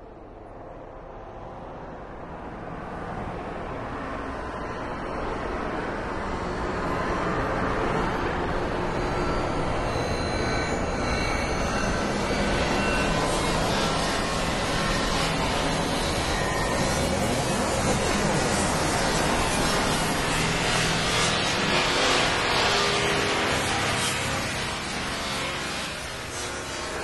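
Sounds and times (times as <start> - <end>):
dense mechanical drone: 0.1 - 27.0.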